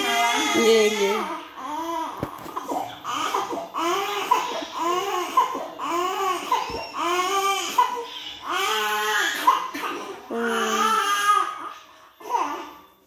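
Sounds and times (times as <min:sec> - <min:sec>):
baby crying: 0:00.0 - 0:12.9.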